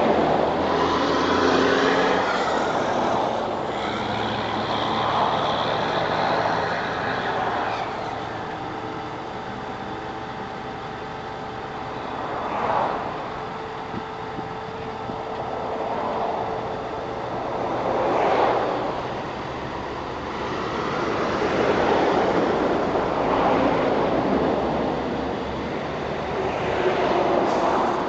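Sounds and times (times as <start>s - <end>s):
highway traffic passing: 0.0s - 28.0s
truck passing: 0.0s - 28.0s.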